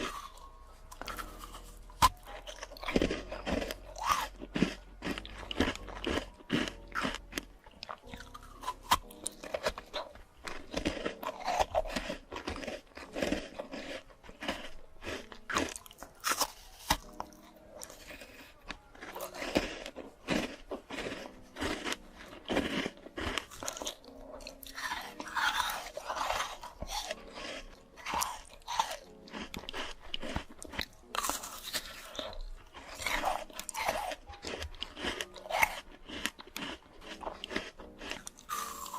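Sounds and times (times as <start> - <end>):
person chewing crisp fruit: 0.0 - 38.9.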